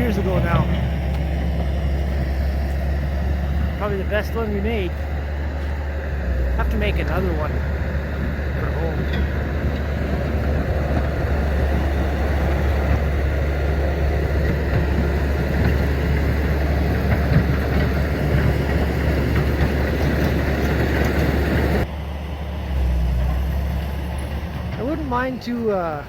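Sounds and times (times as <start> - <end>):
bulldozer diesel engine rumbling: 0.0 - 26.0.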